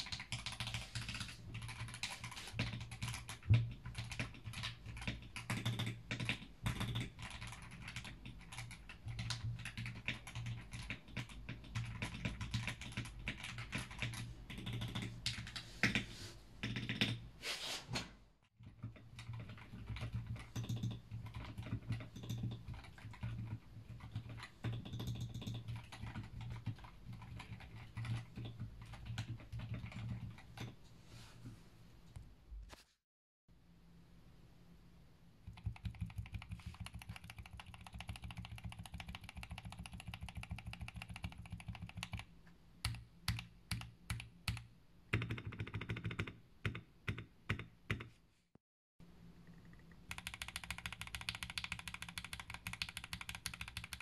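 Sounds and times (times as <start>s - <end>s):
typing on mechanical keyboard: 0.0s - 16.0s, 16.6s - 17.2s, 18.6s - 30.8s, 35.5s - 48.1s, 50.1s - 54.0s.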